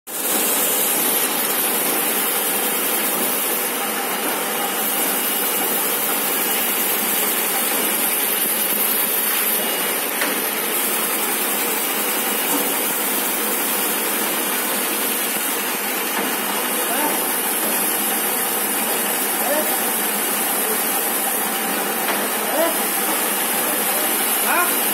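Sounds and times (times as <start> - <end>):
machine running with hiss: 0.1 - 24.9.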